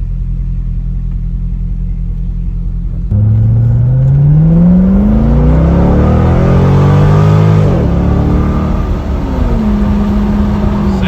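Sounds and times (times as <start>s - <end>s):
car engine accelerating hard: 0.8s - 11.0s.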